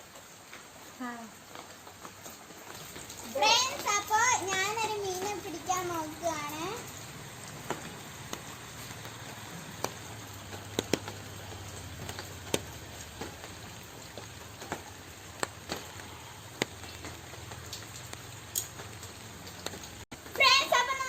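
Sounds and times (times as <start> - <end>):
water drips and splashes: 0.0 - 21.0.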